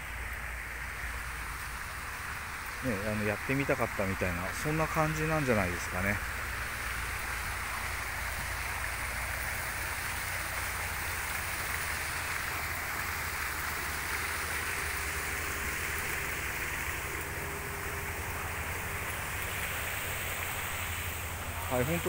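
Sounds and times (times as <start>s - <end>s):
faint steady hum: 0.0s - 22.0s
running water rushing: 0.0s - 22.0s.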